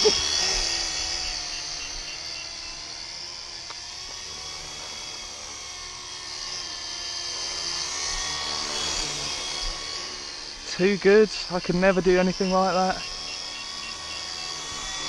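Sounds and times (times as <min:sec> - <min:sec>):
toy helicopter motor whine: 0:00.0 - 0:15.0.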